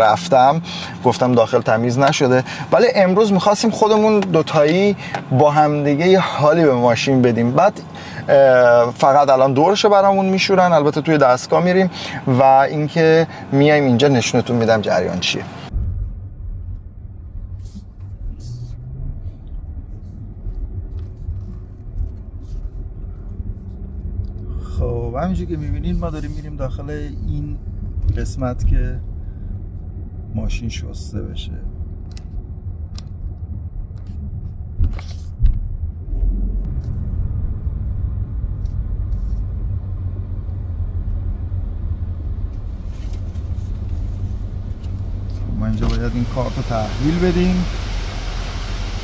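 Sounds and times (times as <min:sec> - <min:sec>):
car engine and tyres rumbling: 0:00.0 - 0:49.0.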